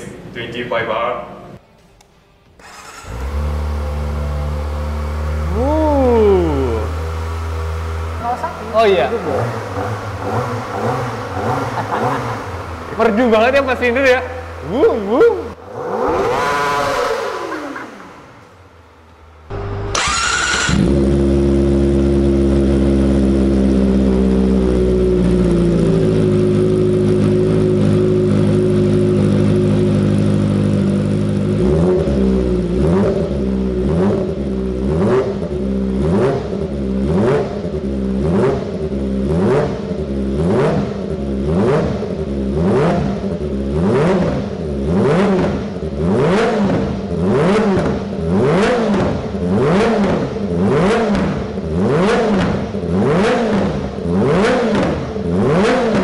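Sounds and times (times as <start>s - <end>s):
motorcycle engine idling and revving: 2.6s - 56.0s.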